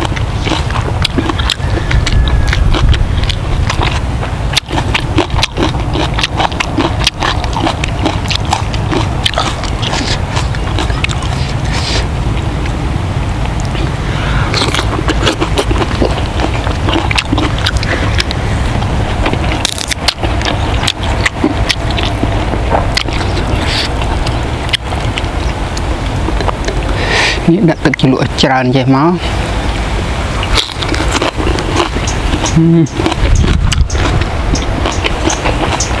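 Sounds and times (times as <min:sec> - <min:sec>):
close chewing and mouth sounds: 0:00.0 - 0:36.0
steady low rumble: 0:00.0 - 0:36.0.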